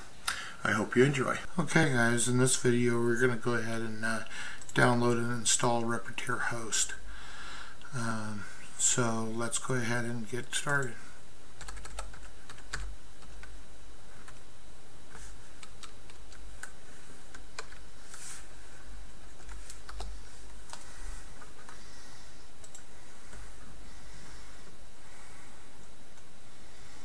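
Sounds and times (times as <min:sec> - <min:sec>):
low hum: 0:01.4 - 0:27.0.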